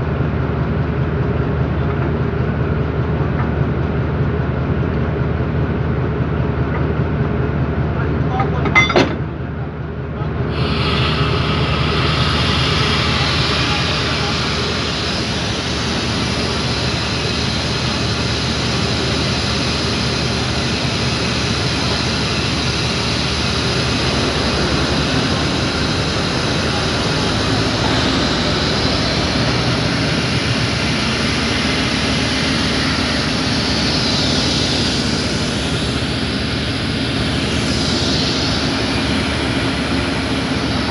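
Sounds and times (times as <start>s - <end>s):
diesel locomotive engine running: 0.0s - 40.9s.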